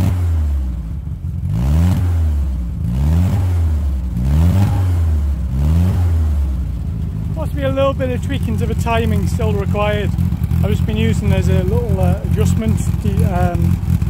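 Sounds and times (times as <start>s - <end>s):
petrol engine revving: 0.0s - 14.0s.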